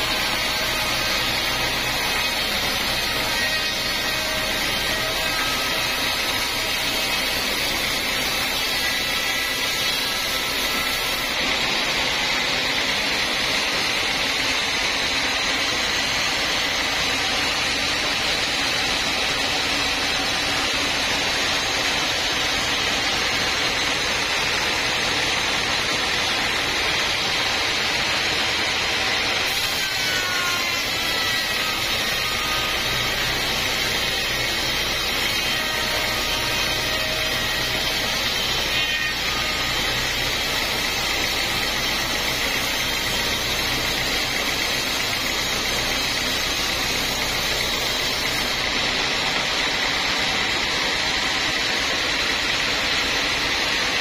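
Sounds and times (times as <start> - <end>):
band saw cutting through log: 0.0 - 54.0
sawmill machine drone: 0.0 - 54.0.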